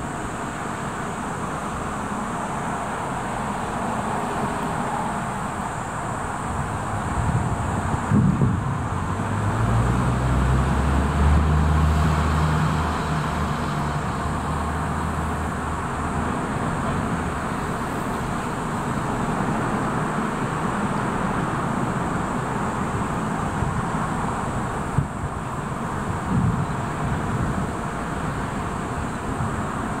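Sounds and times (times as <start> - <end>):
low engine hum: 0.0 - 30.0
outdoor background noise: 0.0 - 30.0.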